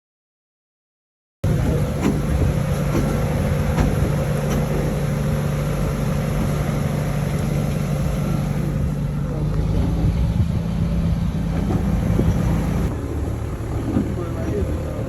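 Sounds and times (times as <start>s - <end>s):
vehicle engine rumbling: 1.4s - 15.0s.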